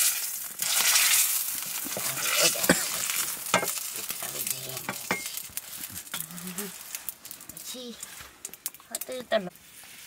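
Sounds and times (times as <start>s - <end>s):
hot oil sizzling in a wok: 0.0s - 10.0s.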